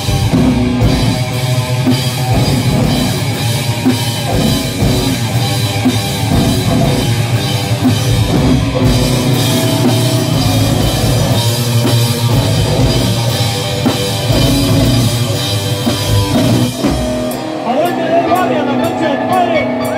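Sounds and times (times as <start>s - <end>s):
drum hits: 0.0s - 17.6s
bass guitar: 0.0s - 19.9s
distorted electric guitars: 0.0s - 19.9s.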